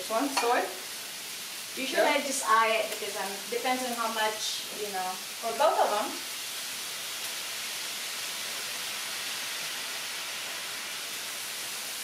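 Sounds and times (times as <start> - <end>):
filling sizzling in a hot pan: 0.0 - 12.0.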